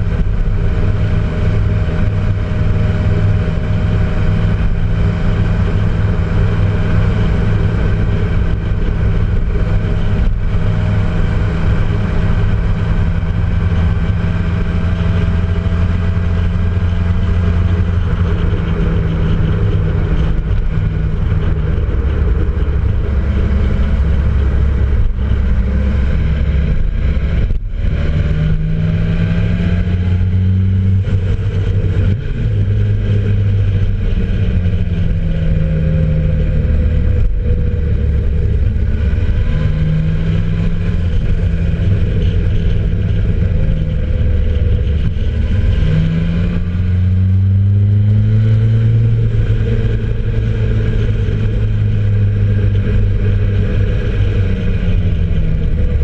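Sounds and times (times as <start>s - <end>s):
motorcycle engine running: 0.0s - 56.0s
tyre noise on road: 0.0s - 56.0s
wind noise: 0.0s - 56.0s.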